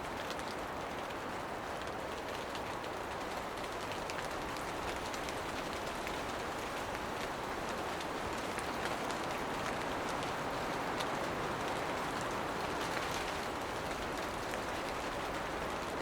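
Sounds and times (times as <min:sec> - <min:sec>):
rain on foliage: 0:00.0 - 0:16.0
raindrop ticks: 0:00.0 - 0:16.0.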